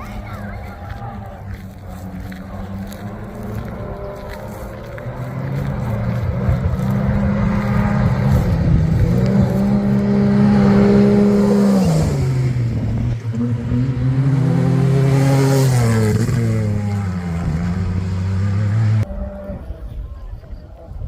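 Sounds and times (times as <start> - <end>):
vehicle engine revving past: 2.0 - 19.5.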